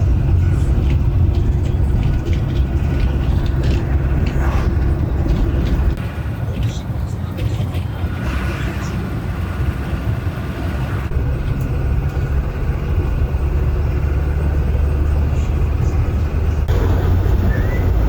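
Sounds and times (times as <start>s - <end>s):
bus engine rumble: 0.0s - 18.0s
road noise: 0.0s - 18.0s.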